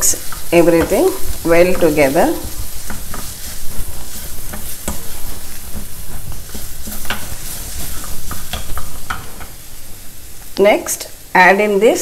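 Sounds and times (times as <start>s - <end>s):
spatula scraping and tapping pan: 0.0s - 9.9s
food sizzling in oil: 0.0s - 12.0s.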